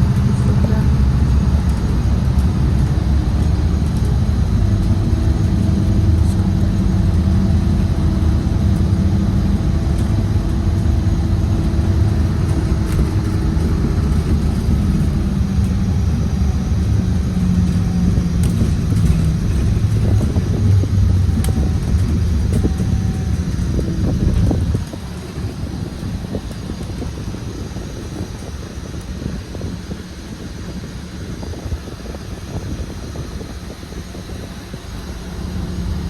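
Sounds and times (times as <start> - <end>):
bus engine rumbling: 0.0 - 36.0.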